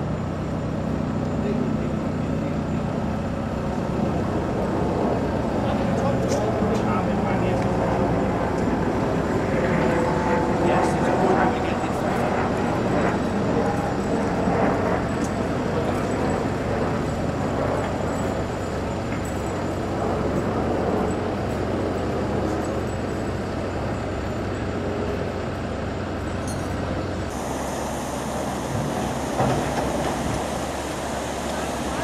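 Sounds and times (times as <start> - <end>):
construction machinery engines: 0.0 - 32.0
road traffic: 0.0 - 32.0.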